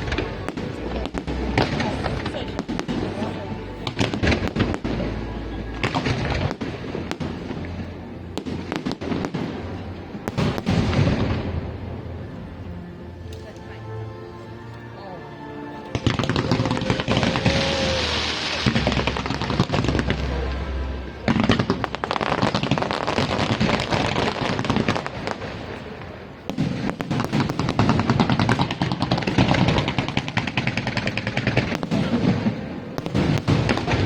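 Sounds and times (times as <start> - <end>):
fireworks low booms: 0.0 - 12.4, 16.0 - 34.0
fireworks crackling: 0.0 - 12.7, 15.8 - 34.0.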